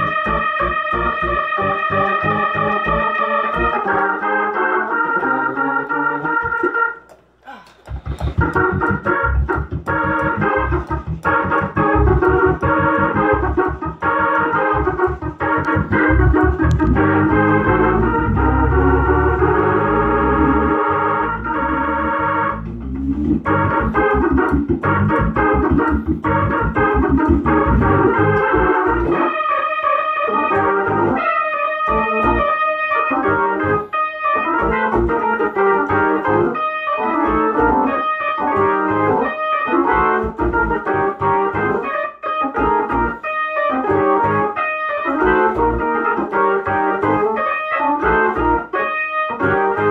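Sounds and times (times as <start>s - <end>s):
electric organ played fast: 0.0s - 49.9s.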